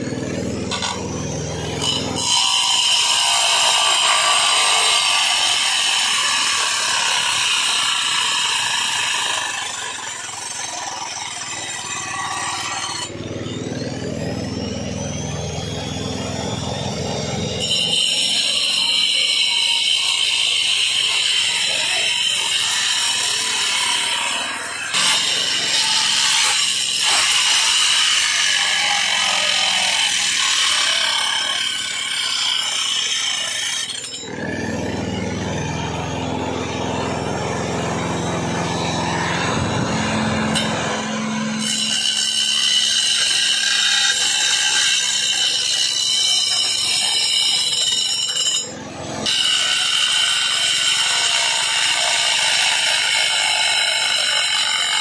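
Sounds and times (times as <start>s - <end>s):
angle grinder cutting brick: 0.0s - 55.0s.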